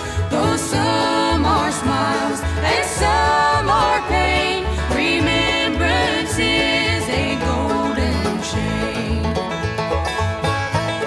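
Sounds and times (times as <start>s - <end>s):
banjo: 0.0s - 11.0s
guitar: 0.0s - 11.0s.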